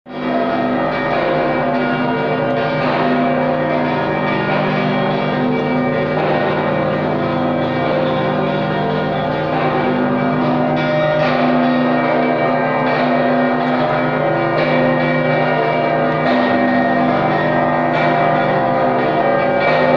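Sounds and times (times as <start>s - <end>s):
church bells ringing: 0.1s - 19.9s.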